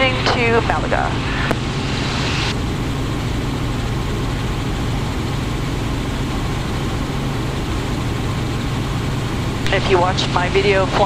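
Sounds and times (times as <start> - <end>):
helicopter engine and rotors drone: 0.0 - 11.0.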